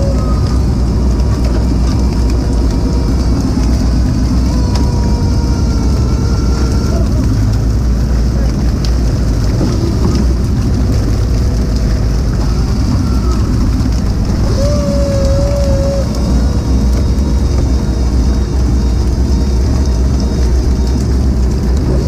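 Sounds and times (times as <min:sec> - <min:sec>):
boat engine rumbling: 0:00.0 - 0:22.0
water churning along hull: 0:00.0 - 0:22.0.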